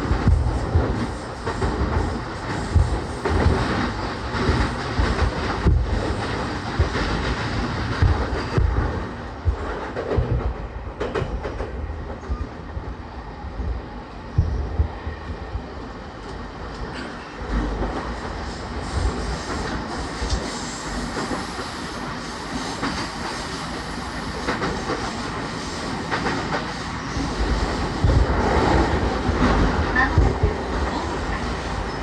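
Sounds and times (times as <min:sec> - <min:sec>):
wheels rumbling on rail: 0:00.0 - 0:32.0.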